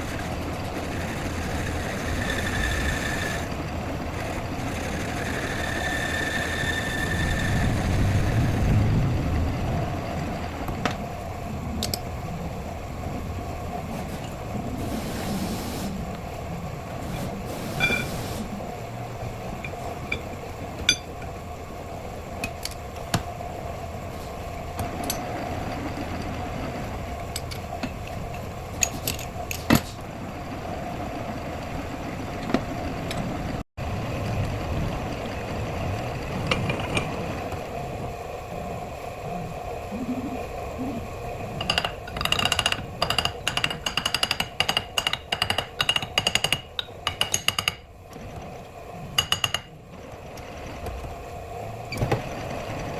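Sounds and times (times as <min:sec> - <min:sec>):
engine-like hum: 0:00.0 - 0:52.9.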